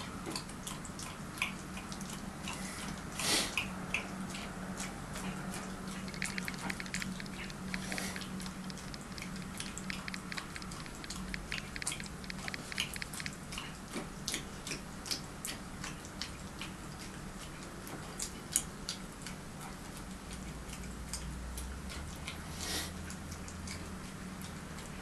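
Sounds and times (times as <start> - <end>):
dog licking a plate: 0.0 - 25.0
low steady hum: 0.0 - 25.0.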